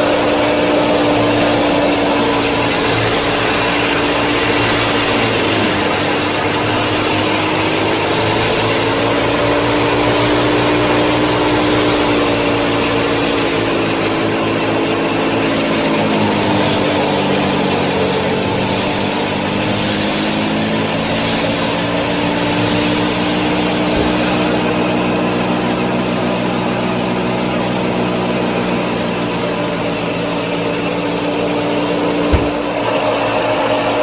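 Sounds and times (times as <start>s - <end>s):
small electric motor whining: 0.0s - 34.0s.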